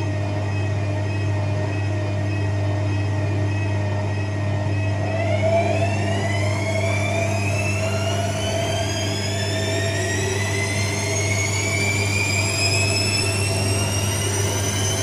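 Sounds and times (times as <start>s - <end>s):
low hum: 0.0s - 15.0s
washing machine motor whine: 0.0s - 15.0s.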